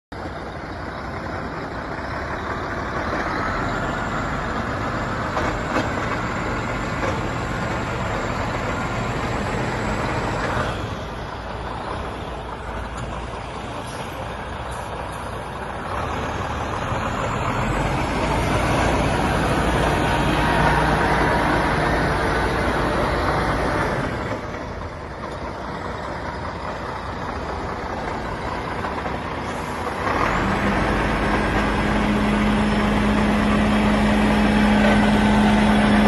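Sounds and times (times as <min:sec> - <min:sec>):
diesel truck idling: 0:00.1 - 0:36.0.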